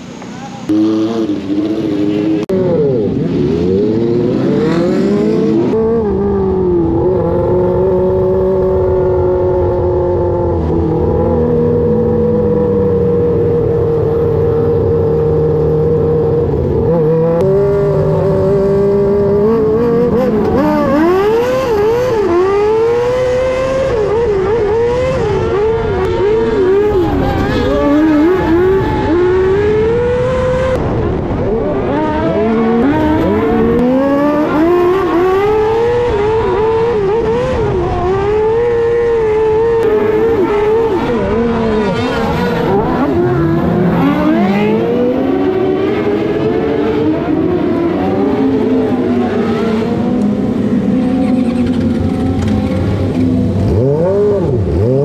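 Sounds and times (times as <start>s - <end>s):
motorcycle engine revving: 0.7s - 55.0s.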